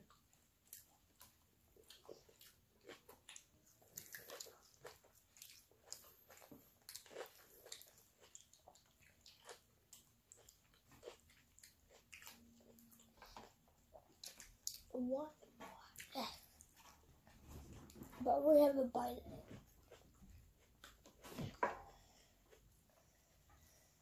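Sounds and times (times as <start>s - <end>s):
people chewing food: 0.0s - 18.2s, 19.2s - 24.0s.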